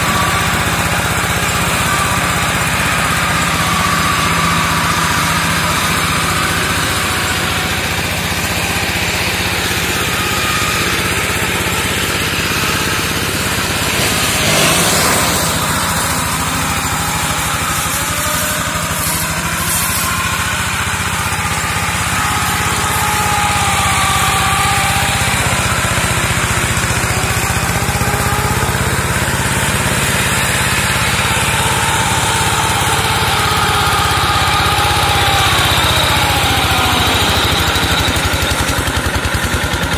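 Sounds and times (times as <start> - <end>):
blade cutting brush: 0.0 - 39.9
brush mower engine running: 0.0 - 39.9.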